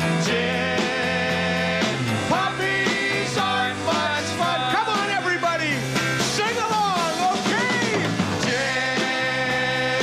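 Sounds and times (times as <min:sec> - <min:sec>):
bass guitar: 0:00.0 - 0:10.0
drum beat: 0:00.0 - 0:10.0
electric guitars: 0:00.0 - 0:10.0.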